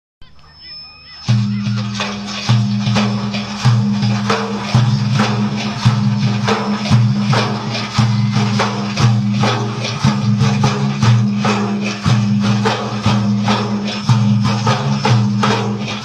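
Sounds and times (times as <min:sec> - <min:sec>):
hand percussion with jingles: 0:00.3 - 0:16.0.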